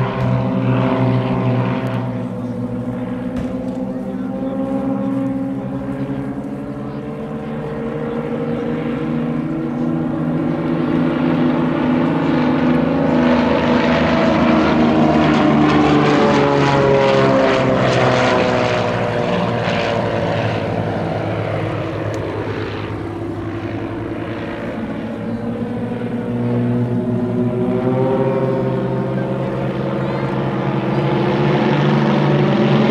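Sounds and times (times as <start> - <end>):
propeller plane engines droning: 0.0 - 32.9.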